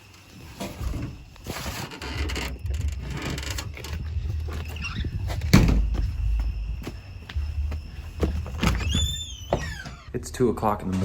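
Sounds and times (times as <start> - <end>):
rustling and scraping movement: 0.0 - 8.8
crickets chirping: 0.0 - 11.0.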